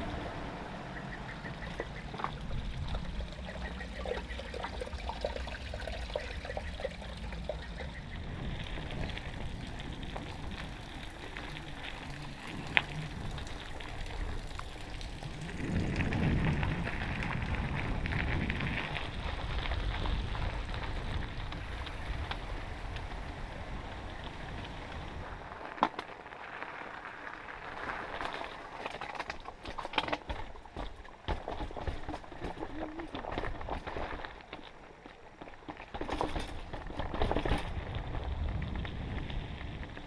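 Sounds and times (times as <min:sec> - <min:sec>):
bike tyres crunching on gravel: 0:00.0 - 0:05.0, 0:05.6 - 0:40.0.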